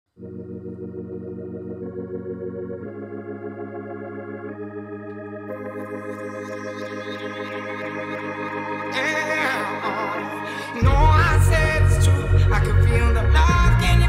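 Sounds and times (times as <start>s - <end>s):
organ chords: 0.1s - 14.0s.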